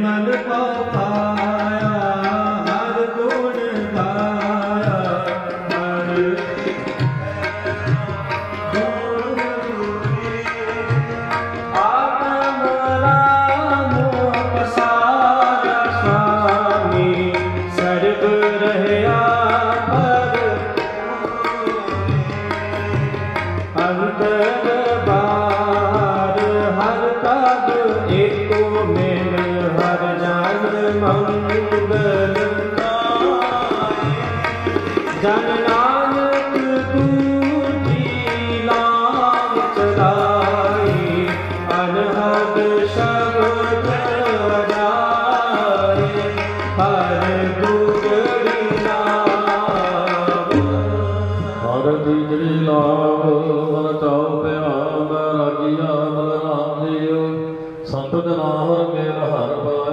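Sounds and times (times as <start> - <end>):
harmonium melody: 0.0 - 59.9
tabla rhythm: 0.0 - 59.9.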